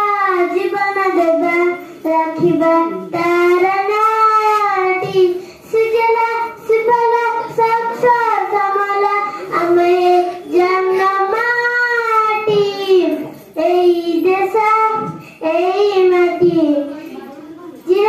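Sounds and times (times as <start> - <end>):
girl singing into microphone: 0.0 - 17.2, 17.8 - 18.0.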